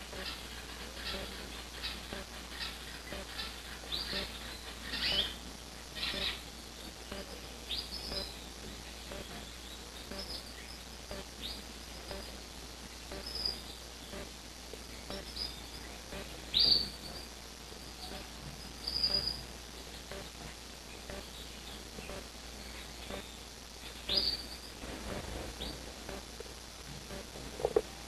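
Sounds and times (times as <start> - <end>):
small birds chirping: 0.0 - 12.4, 13.0 - 20.2, 20.9 - 24.7.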